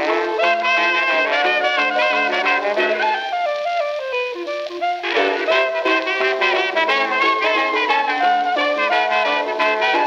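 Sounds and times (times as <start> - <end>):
hot jazz band playing: 0.0 - 10.0
trumpet: 0.0 - 10.0.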